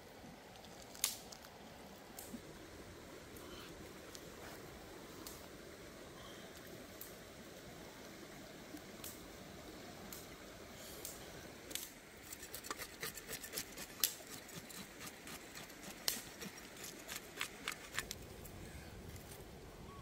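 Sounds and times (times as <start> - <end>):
faint background noise: 0.0 - 20.0.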